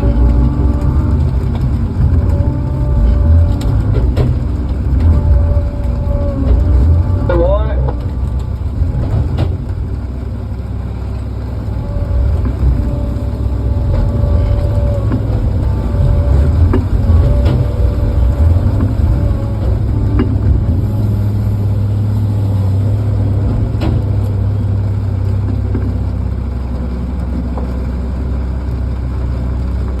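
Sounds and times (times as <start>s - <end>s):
diesel engine rumbling: 0.0s - 30.0s
faint whine: 0.0s - 30.0s.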